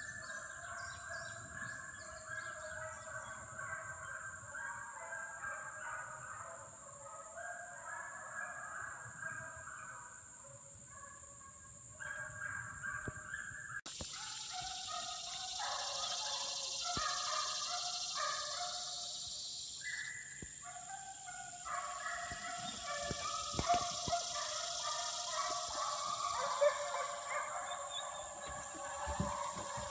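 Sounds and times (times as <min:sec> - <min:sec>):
distant hounds baying: 0:00.0 - 0:29.9.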